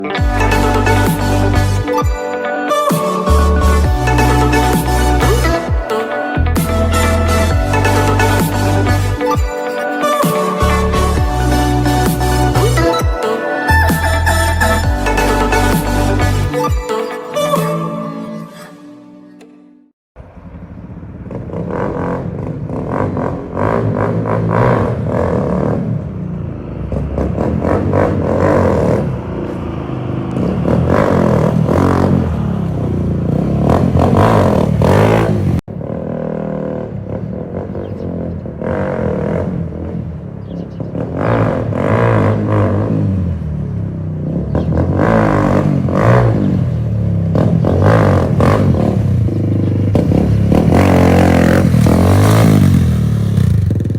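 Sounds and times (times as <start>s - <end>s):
motorcycle engine revving: 0.0s - 2.1s, 3.2s - 5.8s, 6.4s - 9.5s, 10.1s - 13.0s, 20.9s - 53.9s.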